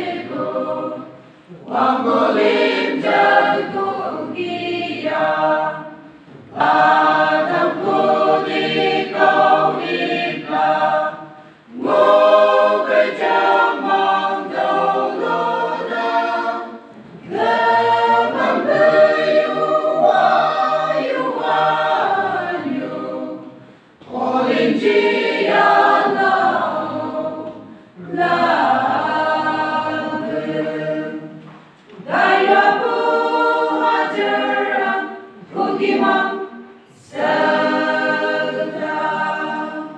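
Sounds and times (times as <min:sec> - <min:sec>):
choir singing unaccompanied: 0:00.0 - 0:39.9.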